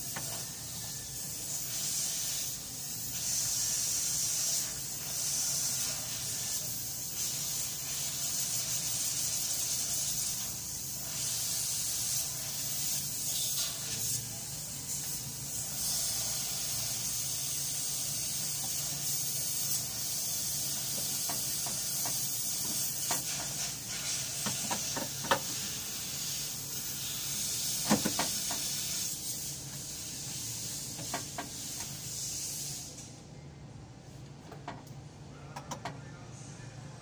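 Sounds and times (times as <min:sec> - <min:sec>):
steady hiss: 0:00.0 - 0:33.3.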